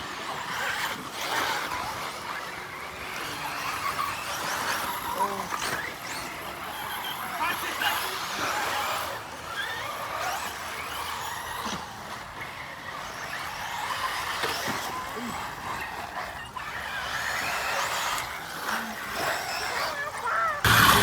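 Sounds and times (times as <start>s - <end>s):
rc car motors whining: 0.0s - 21.0s.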